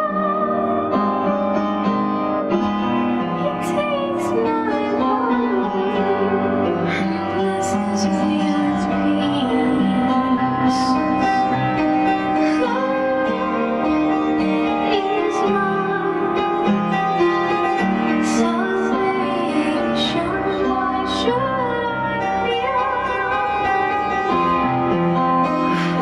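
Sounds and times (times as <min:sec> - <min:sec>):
woman singing: 0:00.0 - 0:01.2, 0:03.4 - 0:11.6, 0:12.3 - 0:16.9, 0:17.8 - 0:24.7, 0:25.6 - 0:26.0
instrumental backing: 0:00.0 - 0:26.0.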